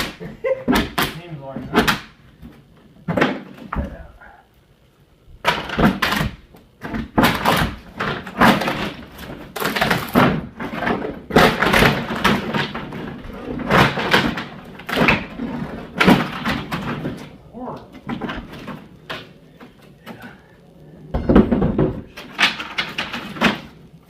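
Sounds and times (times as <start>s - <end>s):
demolition knocks bangs and scrapes: 0.0s - 4.0s, 5.4s - 19.9s, 21.1s - 23.8s.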